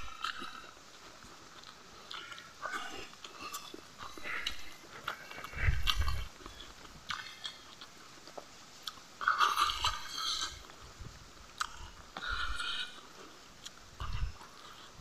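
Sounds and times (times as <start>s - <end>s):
person chewing food: 0.0s - 10.9s, 11.5s - 15.0s.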